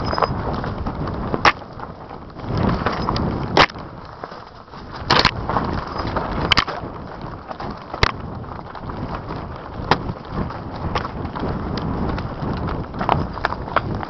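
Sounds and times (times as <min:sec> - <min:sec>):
bike knocks and rattles: 0:00.0 - 0:14.0
bike tyres rumbling over dirt: 0:00.0 - 0:14.0
wind buffeting microphone: 0:00.0 - 0:14.0.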